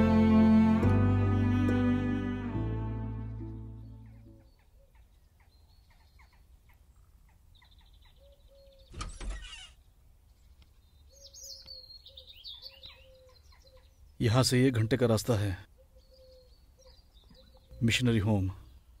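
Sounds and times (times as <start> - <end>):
birds chirping faintly: 3.2 - 19.0.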